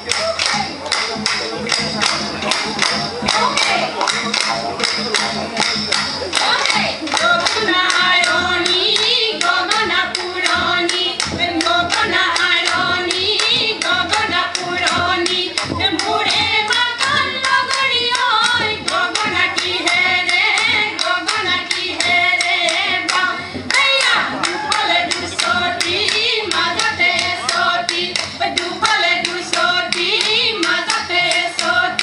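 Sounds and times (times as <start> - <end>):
rhythmic hand claps: 0.0 - 32.0
women singing through microphone: 6.4 - 32.0.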